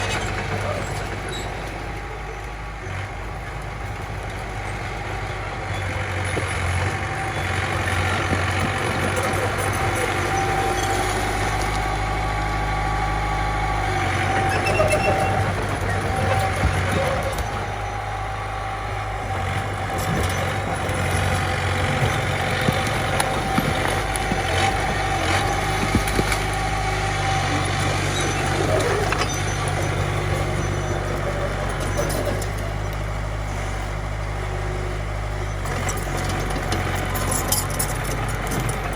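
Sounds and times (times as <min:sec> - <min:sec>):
bulldozer diesel engine humming: 0:00.0 - 0:38.9.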